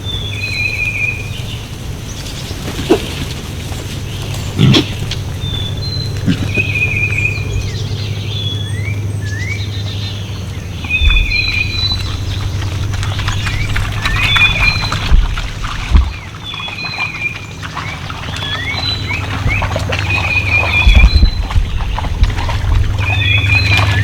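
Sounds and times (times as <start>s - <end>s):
birds singing: 0.0s - 24.0s
steady low hum: 0.0s - 24.0s.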